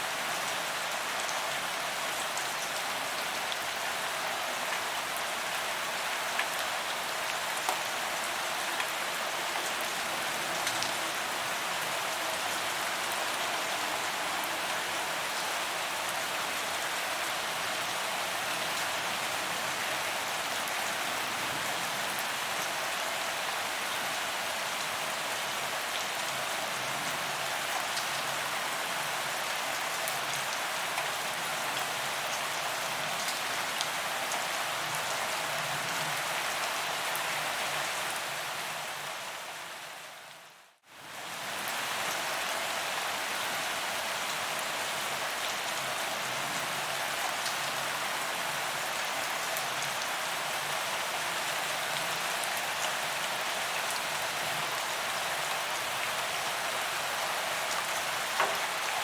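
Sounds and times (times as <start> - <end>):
rain on pavement: 0.0 - 59.0.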